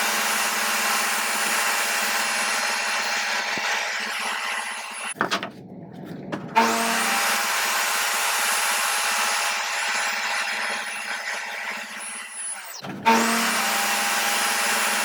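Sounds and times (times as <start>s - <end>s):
power tool whining on wood: 0.0s - 5.2s, 6.6s - 15.0s.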